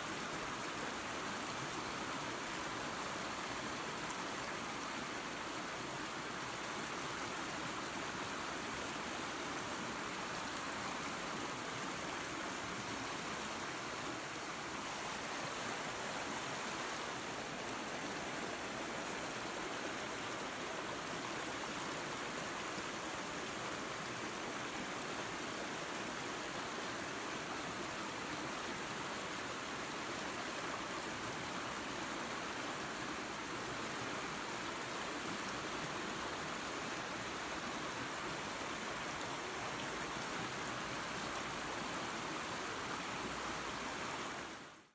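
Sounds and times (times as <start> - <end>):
creek and waterfall rushing: 0.0 - 44.9.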